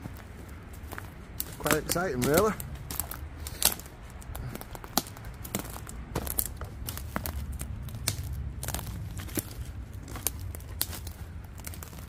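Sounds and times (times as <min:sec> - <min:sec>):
footsteps crunching on twigs: 0:00.0 - 0:12.0
low steady rumble: 0:00.0 - 0:12.0
twigs snapping: 0:00.1 - 0:12.0.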